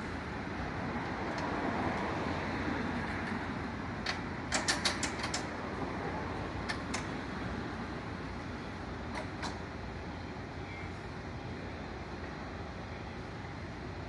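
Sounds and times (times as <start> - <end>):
vehicle engine and traffic noise: 0.0 - 14.0.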